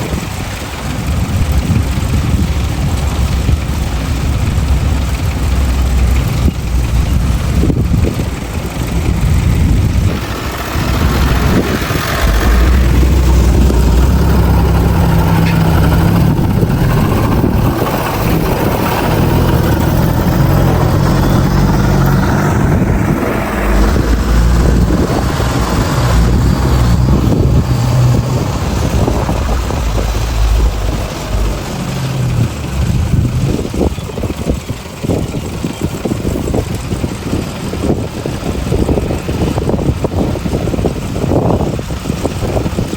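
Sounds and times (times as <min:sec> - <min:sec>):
bulldozer diesel engine revving: 0:00.0 - 0:42.9.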